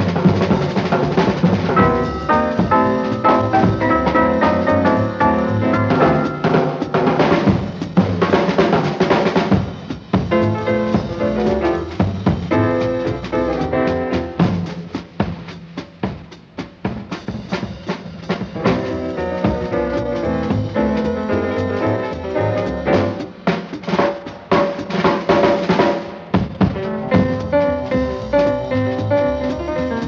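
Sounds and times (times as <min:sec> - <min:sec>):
drum kit snare and bass hits: 0:00.0 - 0:30.0
jazz band playing swing: 0:00.0 - 0:30.0
piano: 0:00.0 - 0:30.0.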